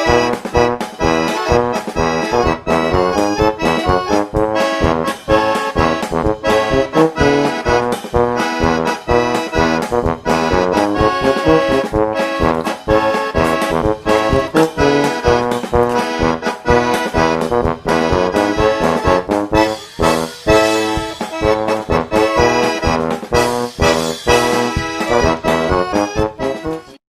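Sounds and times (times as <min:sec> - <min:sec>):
upbeat accordion music: 0:00.0 - 0:27.0.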